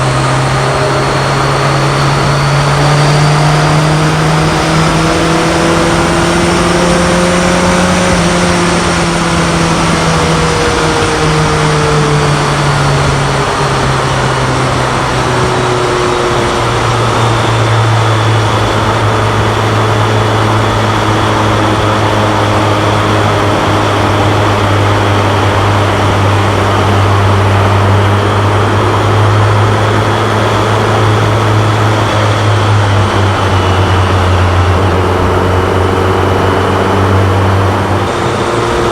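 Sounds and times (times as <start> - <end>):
motorcycle engine running: 0.0 - 38.9
wind rush: 0.0 - 38.9.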